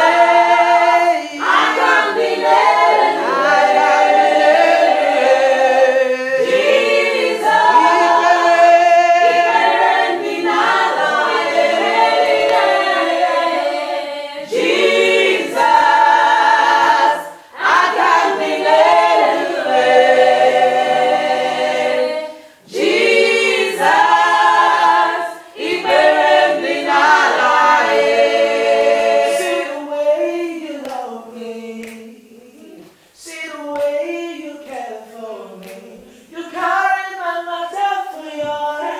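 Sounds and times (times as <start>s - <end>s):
group singing a cappella: 0.0s - 38.9s.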